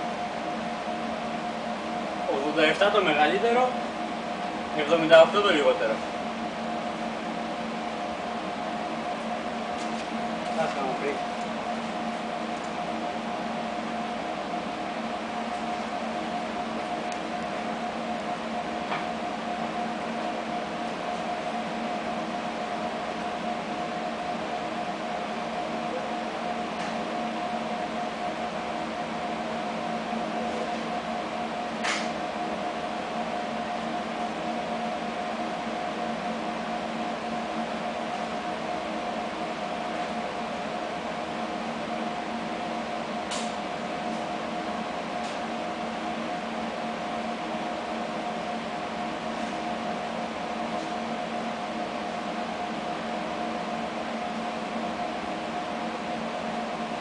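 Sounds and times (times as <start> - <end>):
machinery hum: 0.0 - 57.0.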